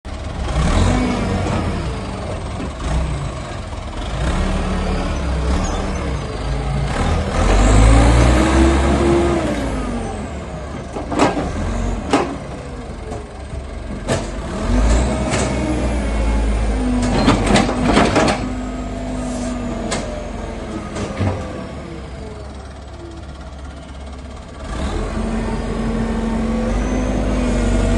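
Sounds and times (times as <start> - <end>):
diesel engine revving: 0.1 - 27.9.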